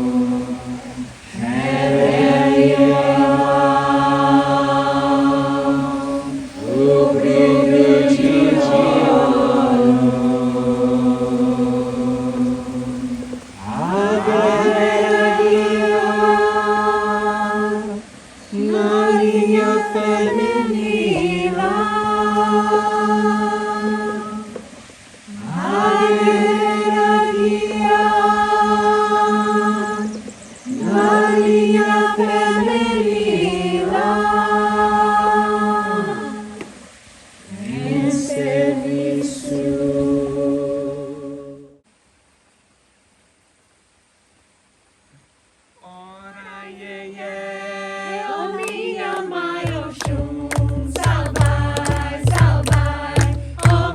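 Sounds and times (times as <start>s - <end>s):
ceremonial chant in held notes: 0.0s - 41.8s, 45.8s - 53.9s.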